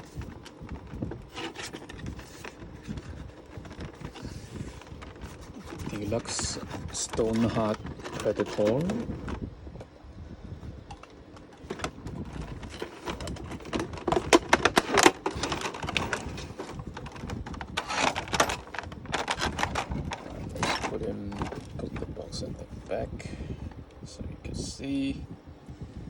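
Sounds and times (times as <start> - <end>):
packaging clicks and crinkles: 0.0 - 9.5, 10.8 - 22.2.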